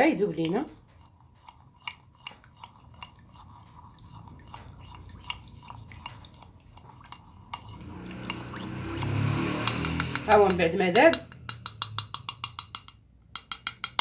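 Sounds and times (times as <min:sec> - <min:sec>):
fat crackling in a pot: 0:00.0 - 0:14.0.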